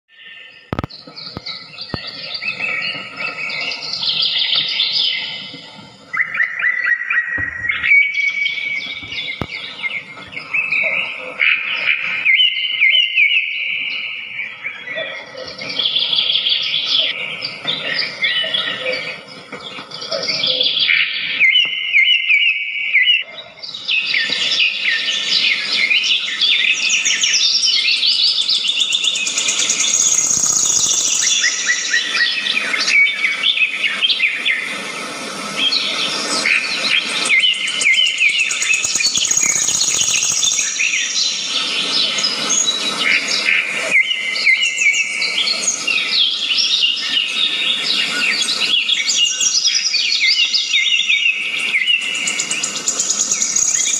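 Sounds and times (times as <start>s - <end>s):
songbirds chirping and twittering: 0.1s - 53.9s.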